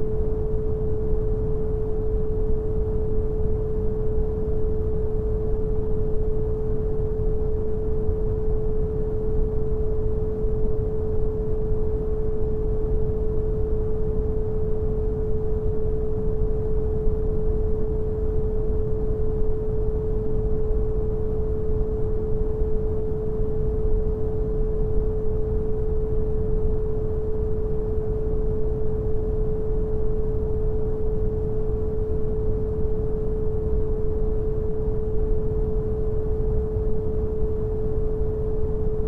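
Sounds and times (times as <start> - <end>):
steady pure tone: 0.0 - 39.0.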